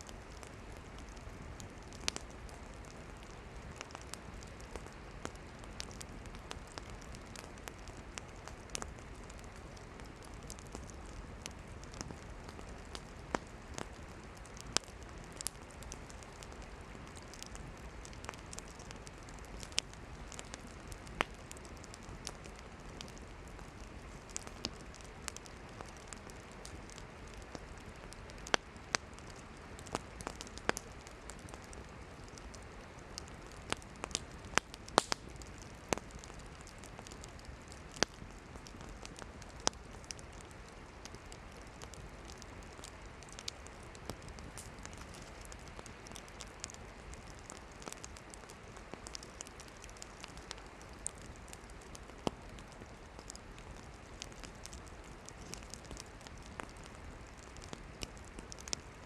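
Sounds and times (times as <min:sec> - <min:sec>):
firewood popping and crackling: 0:00.0 - 0:59.0
fire hissing: 0:00.1 - 0:59.0.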